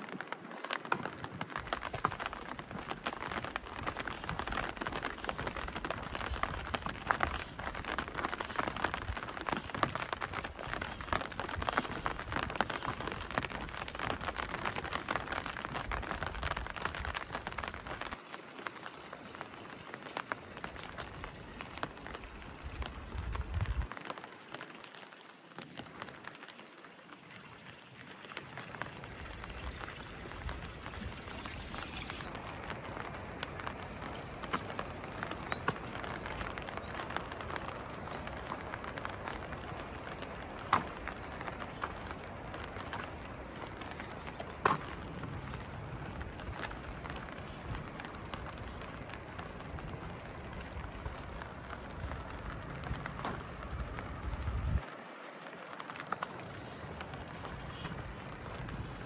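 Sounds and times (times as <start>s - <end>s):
rain patter: 0.0s - 59.0s.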